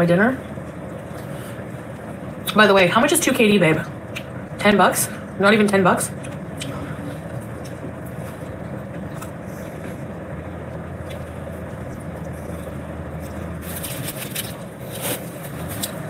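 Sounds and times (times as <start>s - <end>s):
low rumbling hum: 0.0s - 16.0s.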